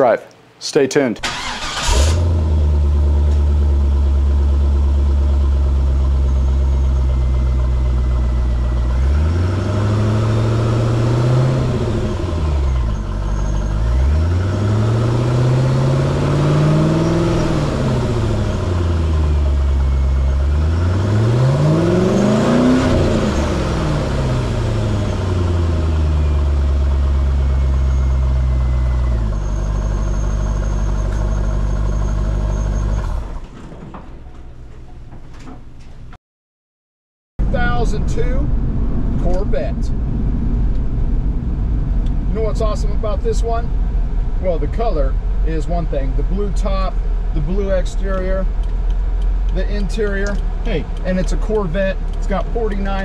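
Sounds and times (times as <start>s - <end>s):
car engine idling and revving: 1.3s - 33.5s, 37.4s - 53.0s.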